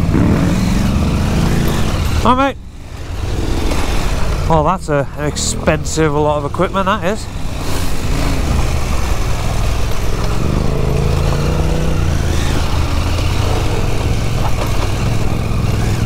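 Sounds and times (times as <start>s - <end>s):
motorcycle engine running: 0.0s - 16.0s
tyres on gravel: 0.0s - 16.0s
wind: 0.0s - 16.0s.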